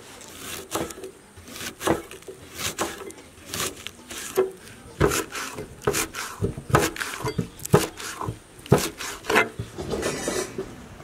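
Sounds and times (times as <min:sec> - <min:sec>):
knife chopping on cutting board: 0:00.4 - 0:09.8.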